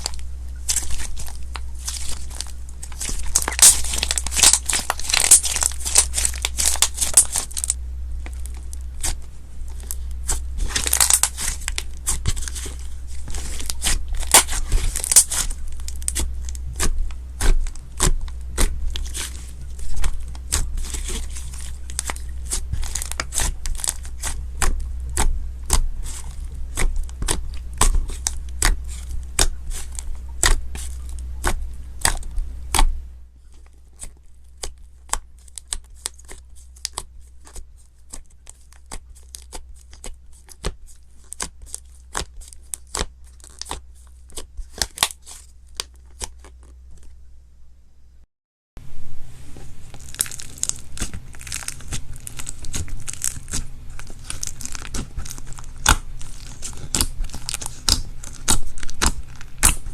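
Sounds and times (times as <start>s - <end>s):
slime crackling and popping: 0.0s - 33.0s, 33.6s - 47.2s, 49.6s - 59.9s.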